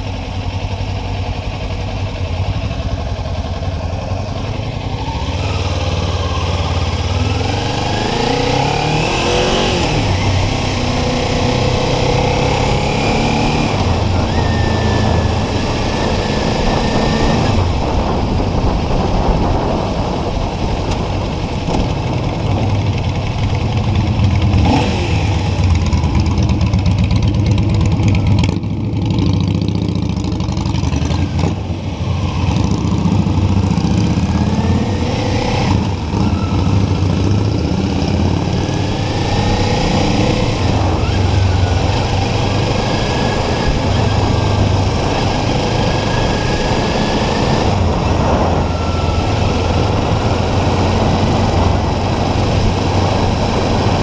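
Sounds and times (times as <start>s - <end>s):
motorcycle engine accelerating: 0.0s - 54.0s
wind noise: 6.2s - 29.0s, 31.2s - 54.0s.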